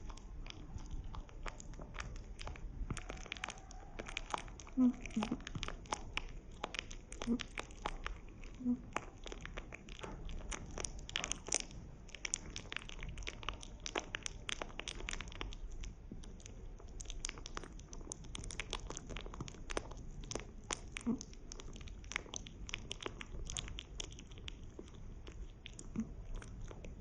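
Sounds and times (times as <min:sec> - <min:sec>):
rabbit chewing food: 0:00.0 - 0:27.0.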